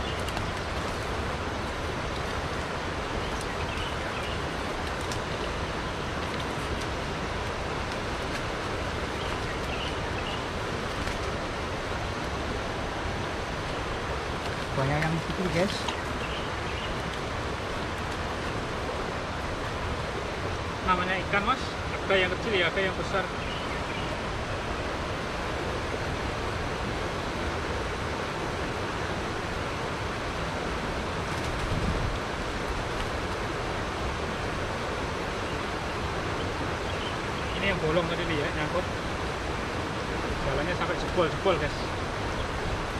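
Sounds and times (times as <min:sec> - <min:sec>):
rushing river water: 0:00.0 - 0:42.9.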